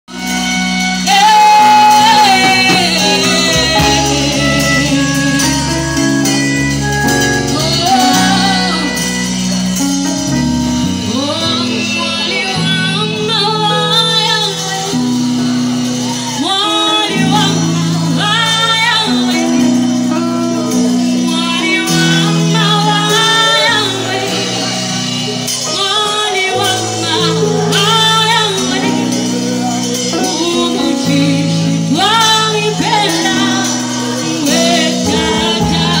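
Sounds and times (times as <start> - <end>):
worship band playing: 0.0 - 36.0
woman singing into a microphone: 0.1 - 36.0.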